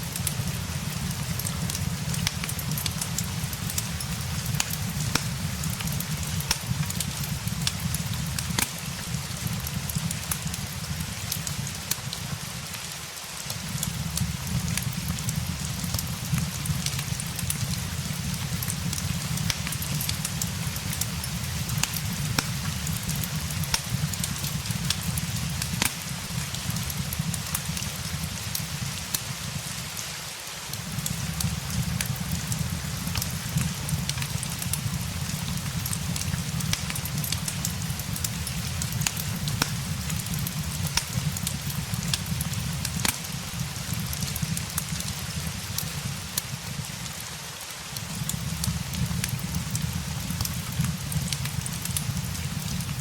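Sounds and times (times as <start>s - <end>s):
rain hissing: 0.0s - 53.0s
wood fire crackling: 0.0s - 53.0s.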